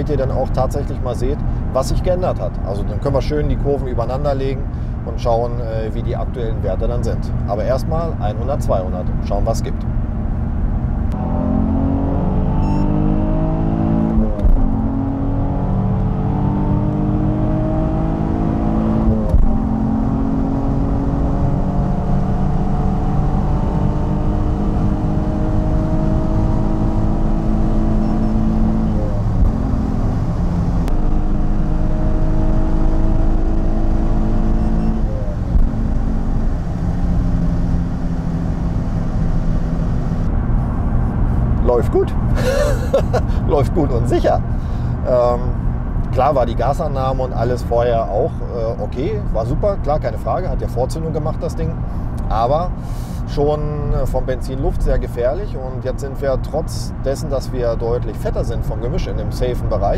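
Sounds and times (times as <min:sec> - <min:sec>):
car engine accelerating: 0:09.8 - 0:59.9.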